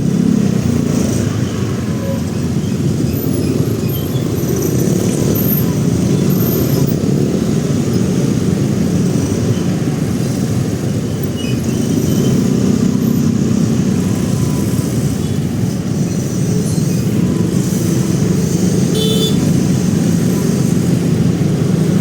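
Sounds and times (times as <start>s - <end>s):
motorcycle engine and road rumble: 0.0s - 22.0s.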